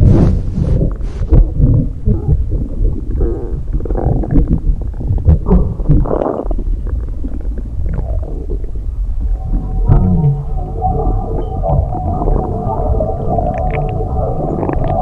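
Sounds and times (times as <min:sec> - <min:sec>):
stomach rumbling and gurgling: 0:00.0 - 0:15.0.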